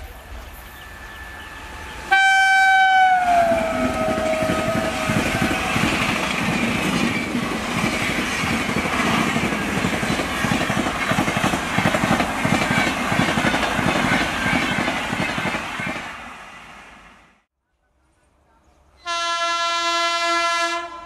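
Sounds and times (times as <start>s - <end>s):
train coaches passing: 0.0s - 21.0s.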